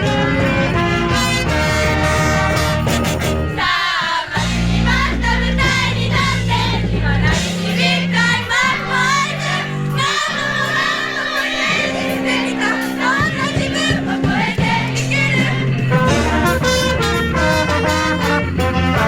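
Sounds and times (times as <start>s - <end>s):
voices singing along: 0.0s - 19.0s
wind band playing: 0.0s - 19.0s.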